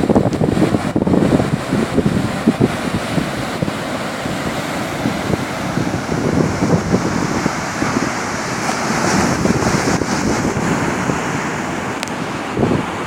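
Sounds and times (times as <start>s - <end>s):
sea waves breaking: 0.0s - 13.0s
wind gusting on microphone: 0.0s - 13.0s.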